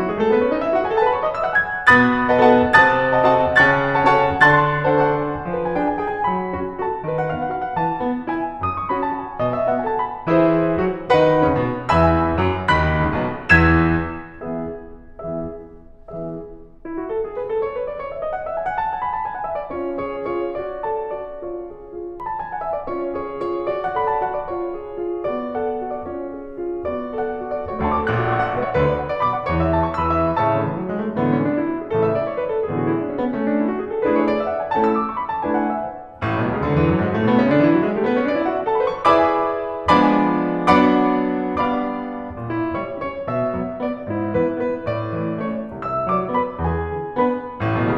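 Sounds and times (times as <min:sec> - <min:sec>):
piano chords: 0:00.0 - 0:47.9.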